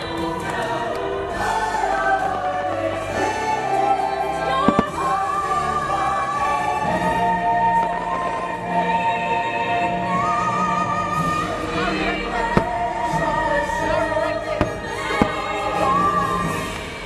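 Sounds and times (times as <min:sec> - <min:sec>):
orchestral music with choir: 0:00.0 - 0:17.0.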